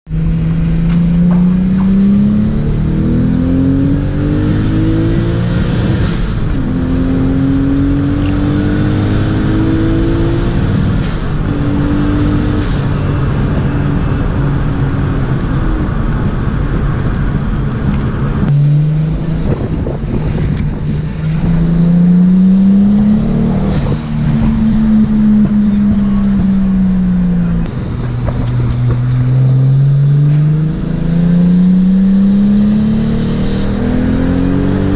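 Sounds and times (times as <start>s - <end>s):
engine accelerating through gears: 0.1s - 34.9s.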